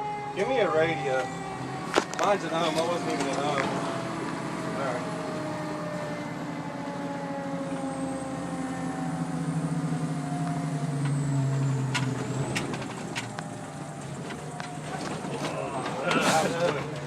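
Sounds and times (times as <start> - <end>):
fire truck engine hum: 0.0 - 17.0.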